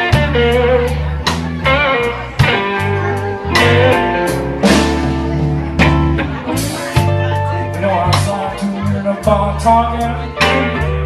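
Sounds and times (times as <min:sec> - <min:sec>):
drums and cymbals: 0:00.0 - 0:11.0
electric guitars: 0:00.0 - 0:11.0
walking bass line: 0:00.0 - 0:11.0.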